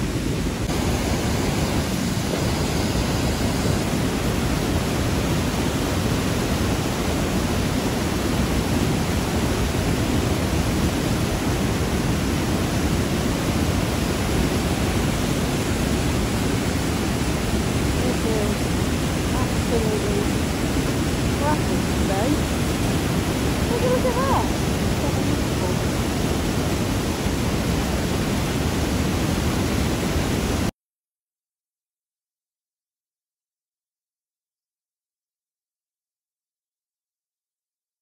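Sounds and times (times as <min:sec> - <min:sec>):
water rushing over weir: 0:00.0 - 0:30.7.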